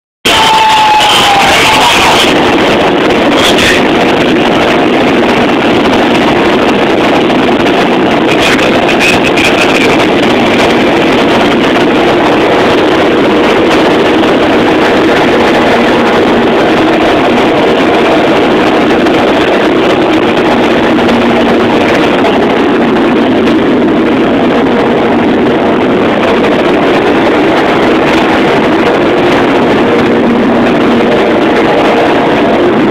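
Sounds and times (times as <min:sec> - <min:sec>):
loud machinery din: 0:00.2 - 0:32.9.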